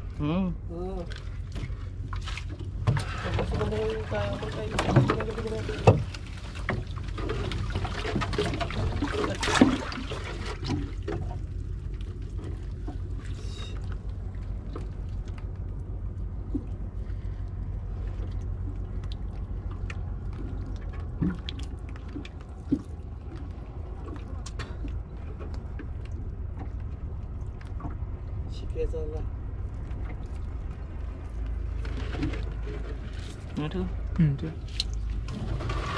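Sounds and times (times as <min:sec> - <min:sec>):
low rumble: 0:00.0 - 0:35.9
water splashing and dripping: 0:01.0 - 0:28.5, 0:29.6 - 0:35.9.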